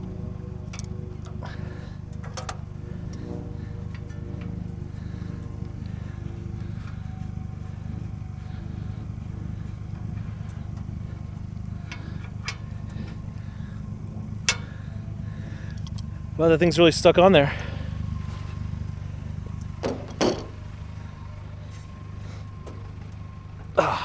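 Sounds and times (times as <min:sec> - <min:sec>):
engine rumble: 0:00.0 - 0:24.0.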